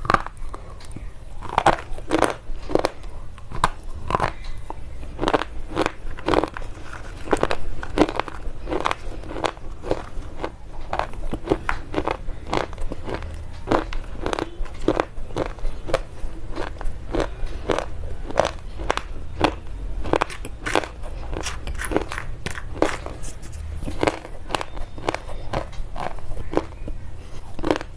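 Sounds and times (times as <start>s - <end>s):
pencils being chewed crunching: 0.0s - 27.9s.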